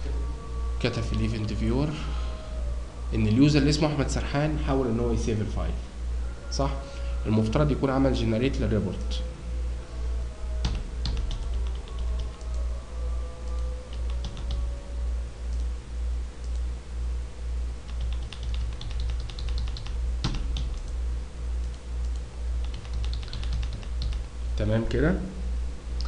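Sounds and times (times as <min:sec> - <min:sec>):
low pulsing hum: 0:00.0 - 0:26.0.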